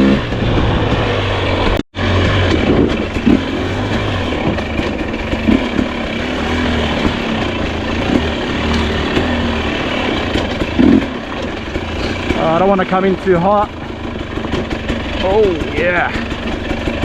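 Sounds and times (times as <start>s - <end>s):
two-stroke dirt bike engine: 0.0s - 17.0s.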